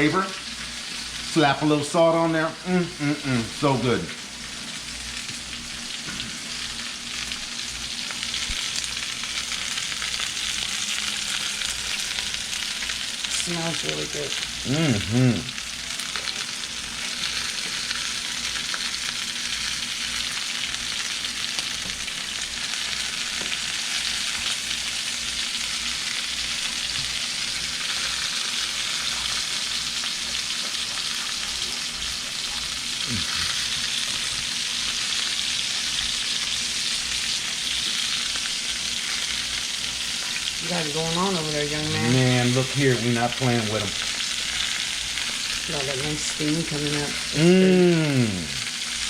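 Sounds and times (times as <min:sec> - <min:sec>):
vegetables sizzling in a wok: 0:00.0 - 0:49.0.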